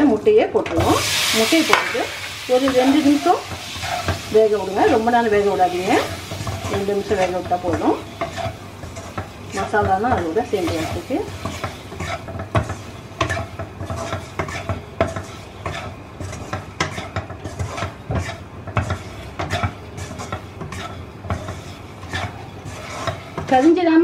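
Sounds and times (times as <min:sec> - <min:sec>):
light sizzling: 0:00.0 - 0:24.0
utensil scraping in a pan: 0:00.0 - 0:24.0.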